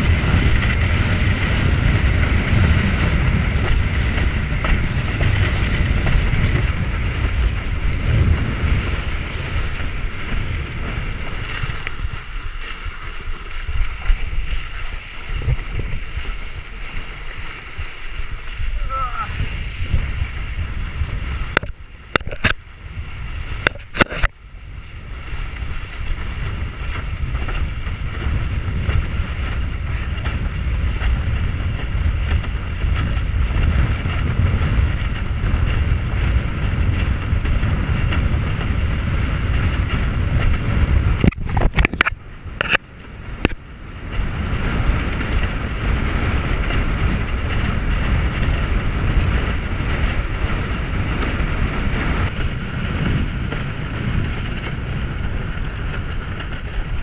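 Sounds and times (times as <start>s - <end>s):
water rushing under board: 0.0s - 57.0s
wind buffeting microphone: 0.0s - 57.0s.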